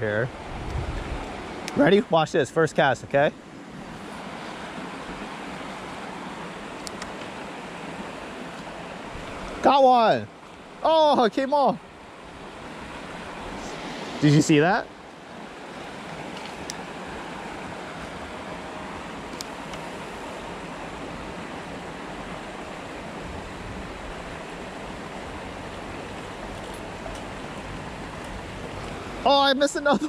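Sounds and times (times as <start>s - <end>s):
creek water rushing over rocks: 0.3s - 30.0s.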